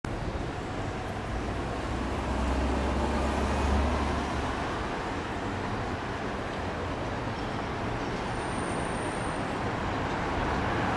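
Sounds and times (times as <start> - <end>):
city street traffic: 0.0 - 10.9.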